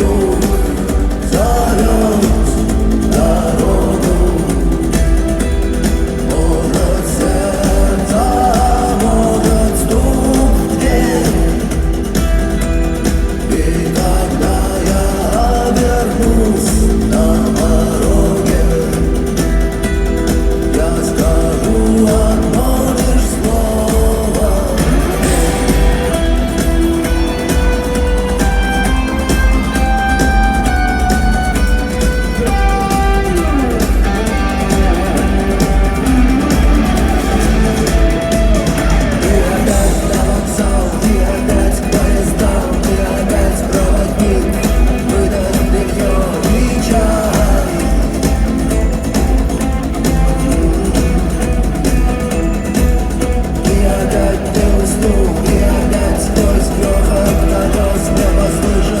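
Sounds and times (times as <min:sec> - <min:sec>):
heavy bass: 0:00.0 - 0:59.0
person singing: 0:00.0 - 0:59.0
rock band playing live: 0:00.0 - 0:59.0.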